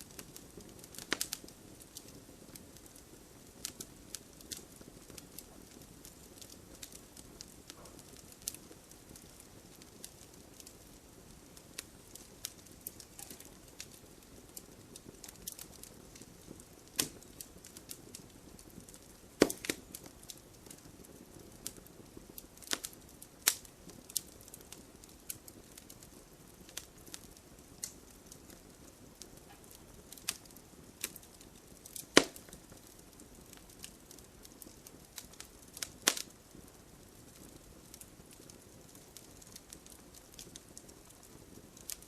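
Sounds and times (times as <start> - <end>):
low steady hiss: 0.0 - 42.0
wood fire crackling: 0.0 - 42.0.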